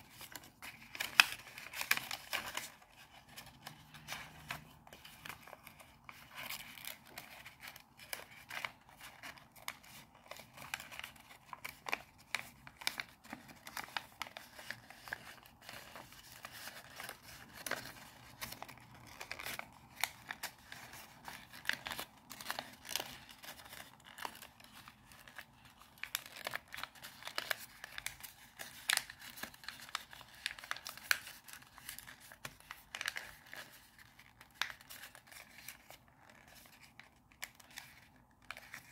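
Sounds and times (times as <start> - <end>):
paper crinkling as folded: 0.0 - 38.9.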